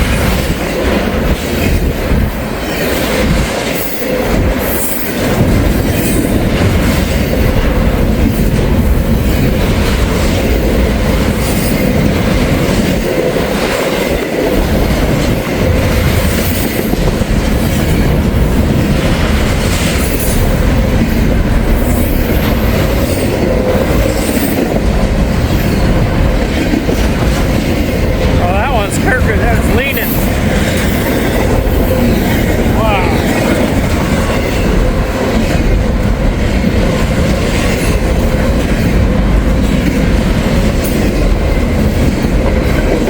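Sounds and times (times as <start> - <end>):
train wheels on rails: 0.0 - 43.0.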